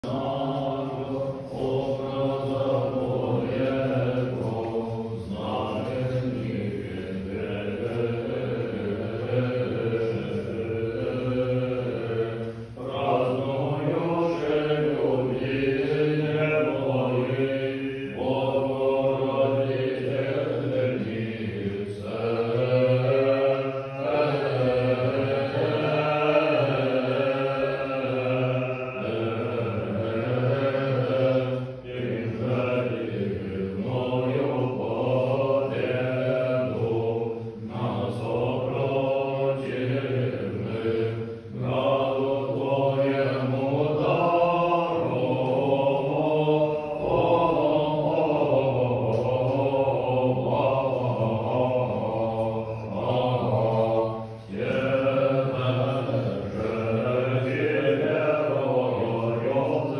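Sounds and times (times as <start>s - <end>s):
man chanting unaccompanied: 0.0s - 59.9s.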